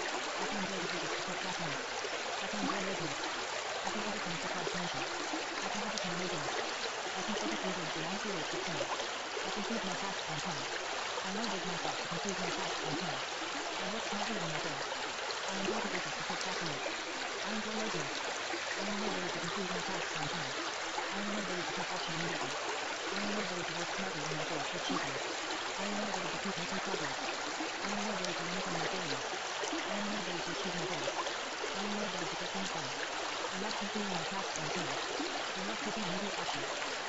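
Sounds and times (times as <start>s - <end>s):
faint low voice murmuring: 0.0s - 37.0s
running water rushing: 0.0s - 37.0s.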